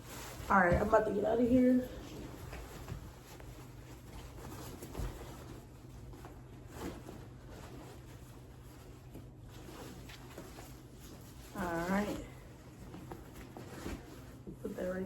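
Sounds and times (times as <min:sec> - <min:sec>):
low steady hum: 0:00.0 - 0:15.0
rustling and handling noises: 0:00.0 - 0:15.0.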